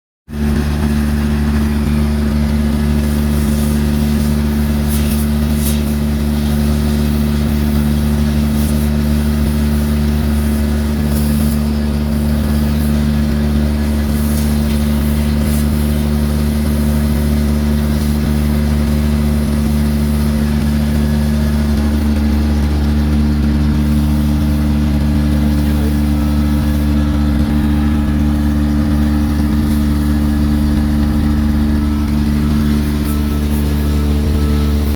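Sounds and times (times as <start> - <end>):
excavator diesel engine running: 0.3 - 34.9.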